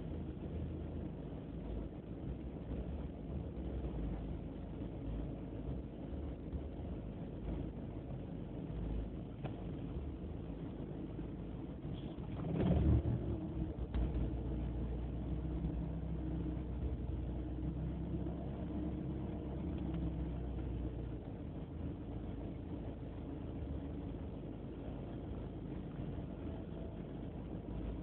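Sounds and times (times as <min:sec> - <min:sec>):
car engine rough idle: 0:00.0 - 0:28.0.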